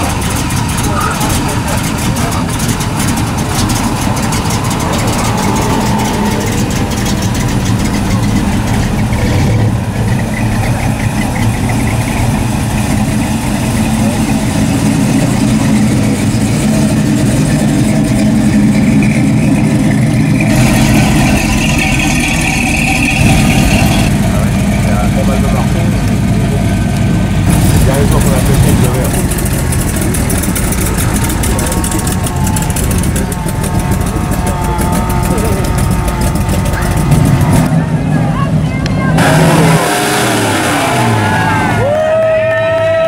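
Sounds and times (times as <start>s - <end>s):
car engines idling and rolling past: 0.0s - 43.0s
crowd chatter: 0.0s - 43.0s.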